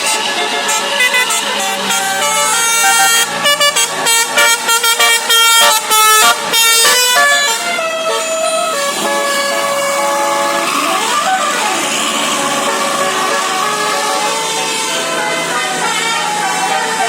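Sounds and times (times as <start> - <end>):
musical air horn melody: 0.0 - 17.0.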